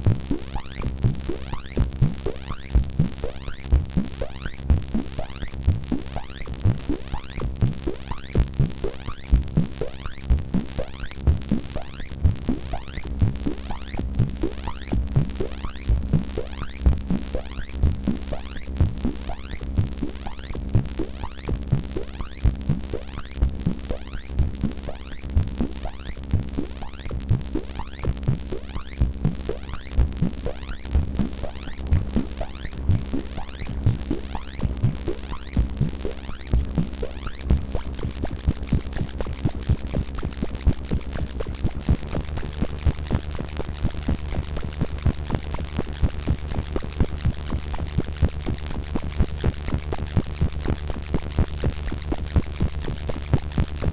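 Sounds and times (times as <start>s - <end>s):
electronic blips with pitch sweeps: 0.4s - 53.9s.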